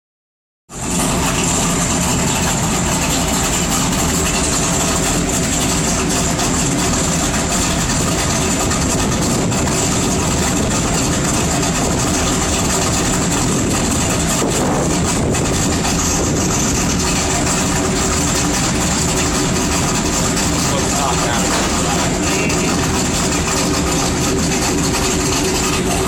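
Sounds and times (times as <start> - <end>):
car engine idling: 0.7 - 26.0.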